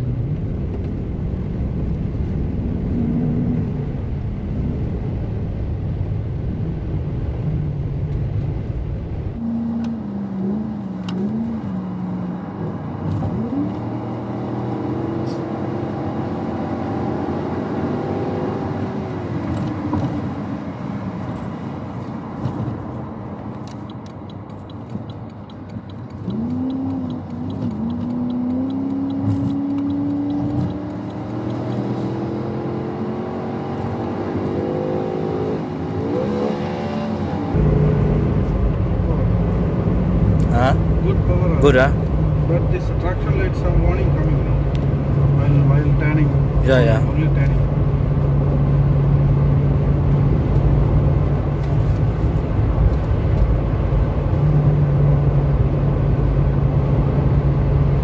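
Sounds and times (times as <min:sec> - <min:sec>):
truck engine accelerating: 0:00.0 - 0:21.4, 0:22.6 - 0:58.0
road noise: 0:00.0 - 0:58.0.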